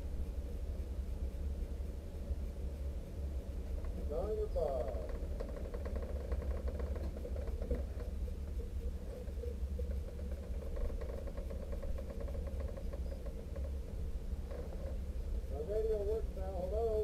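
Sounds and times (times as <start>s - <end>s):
low rumble with hum in car: 0.0s - 17.0s.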